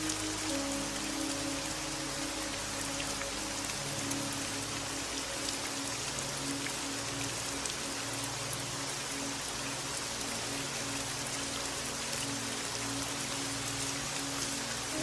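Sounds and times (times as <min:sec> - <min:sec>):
rain falling: 0:00.0 - 0:15.0
soft slow music: 0:00.0 - 0:15.0.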